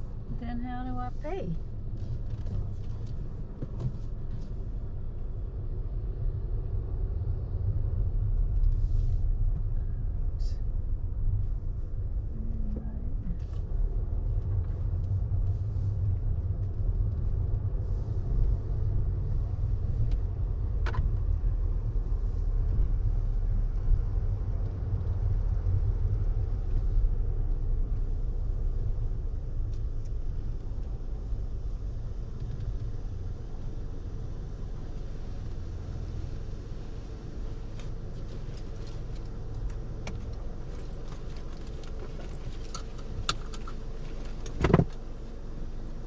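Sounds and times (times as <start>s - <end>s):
car engine running: 0.0s - 46.0s.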